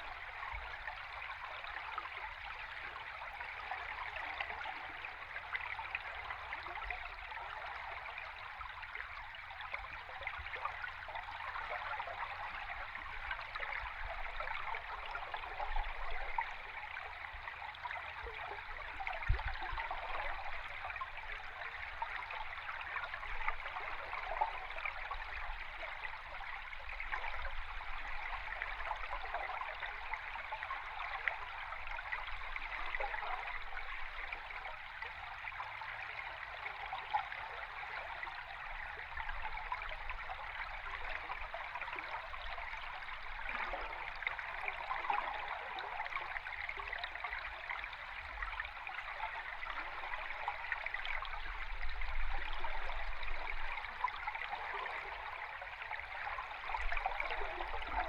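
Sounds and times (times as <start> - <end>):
underwater stream rushing and bubbling: 0.0 - 58.0.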